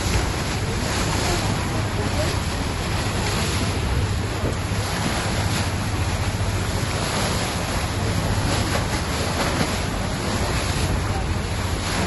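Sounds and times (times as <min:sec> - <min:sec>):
low even rumble: 0:00.0 - 0:12.0
water rushing along hull: 0:00.0 - 0:12.0
wind buffeting microphone: 0:00.0 - 0:12.0.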